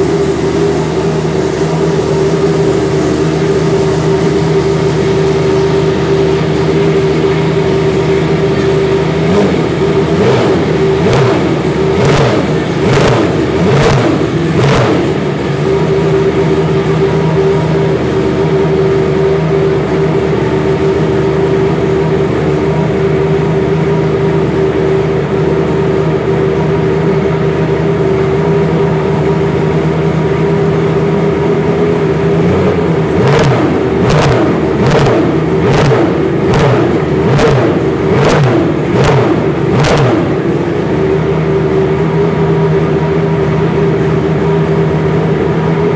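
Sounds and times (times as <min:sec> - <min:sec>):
racing car engine revving: 0:00.0 - 0:45.9.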